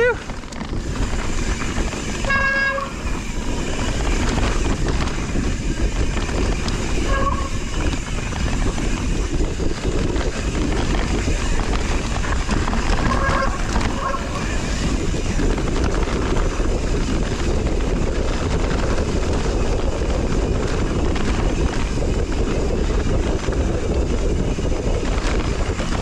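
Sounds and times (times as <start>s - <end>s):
bike rattling and knocking: 0.0s - 26.0s
tyre and wind noise: 0.0s - 26.0s.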